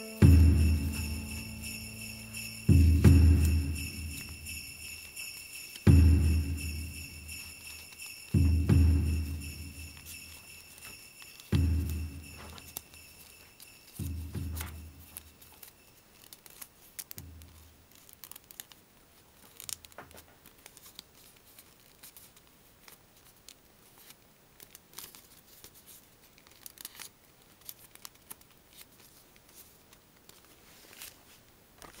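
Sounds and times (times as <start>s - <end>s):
paper rustling and crinkling: 3.4s - 5.9s, 7.2s - 8.6s, 9.9s - 32.0s
faint paper ticks and brushes: 4.2s - 5.9s, 7.0s - 8.5s, 9.3s - 32.0s.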